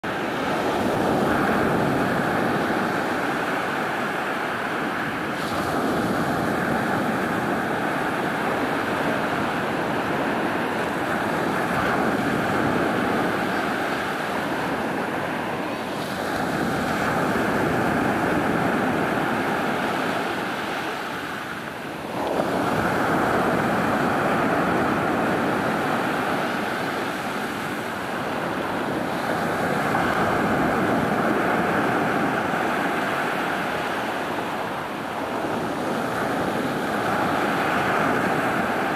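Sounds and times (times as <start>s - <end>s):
waves washing up a pebble beach: 0.1s - 38.9s.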